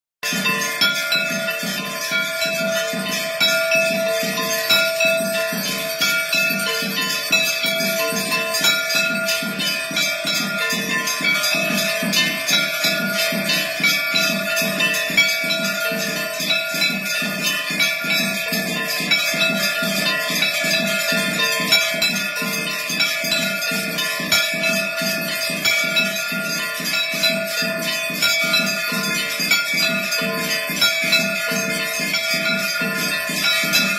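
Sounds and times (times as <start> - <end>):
bells ringing and jingling: 0.2 - 33.9
steady drum beat: 0.2 - 33.9.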